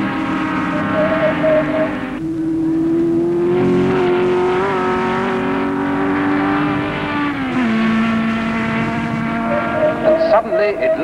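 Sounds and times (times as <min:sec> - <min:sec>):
racing car engines running hard: 0:00.0 - 0:11.0.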